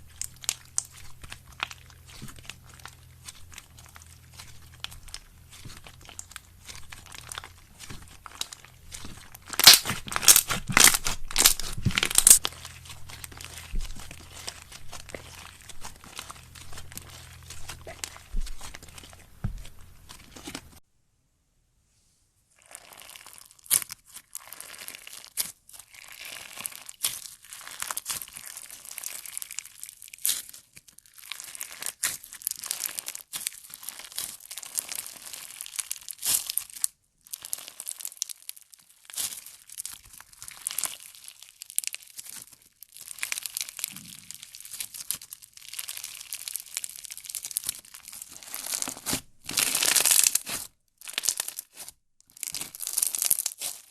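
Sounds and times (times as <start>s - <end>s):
slime crackling and popping: 0.0s - 20.8s, 22.6s - 53.9s.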